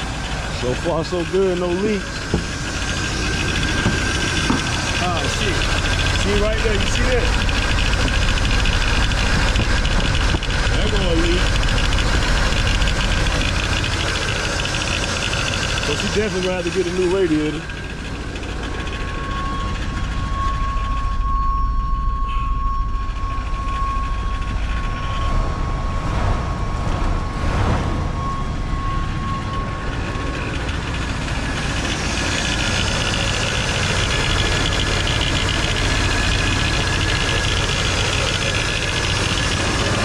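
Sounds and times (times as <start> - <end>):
engine idling: 0.0 - 40.0
pulley whine: 0.0 - 40.0.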